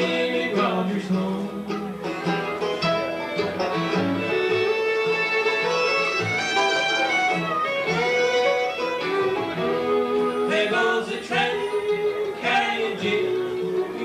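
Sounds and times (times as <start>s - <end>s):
banjo picking: 0.0s - 14.0s
bluegrass band playing: 0.0s - 14.0s
guitar picking: 0.0s - 14.0s.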